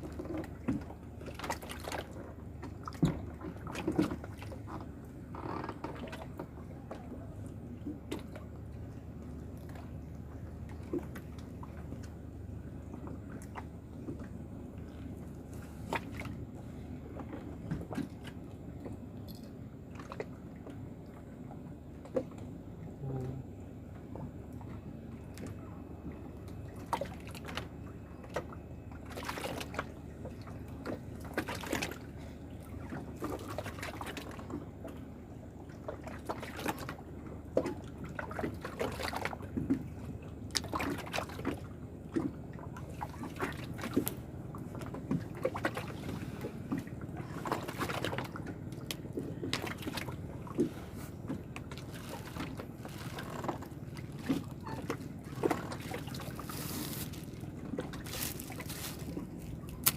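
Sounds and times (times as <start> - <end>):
low steady background noise: 0.0 - 59.9
water splashing and sloshing: 0.0 - 59.9.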